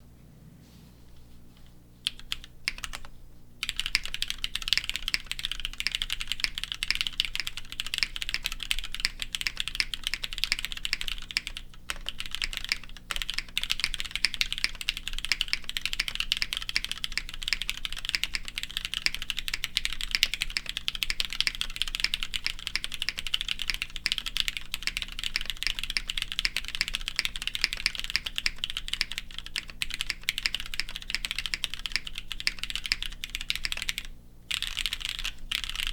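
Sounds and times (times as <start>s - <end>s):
mechanical keyboard typing: 2.0s - 35.9s.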